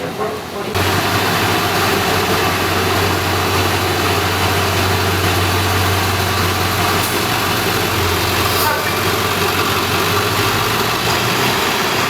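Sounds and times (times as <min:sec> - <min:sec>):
engine idling: 0:00.8 - 0:12.0.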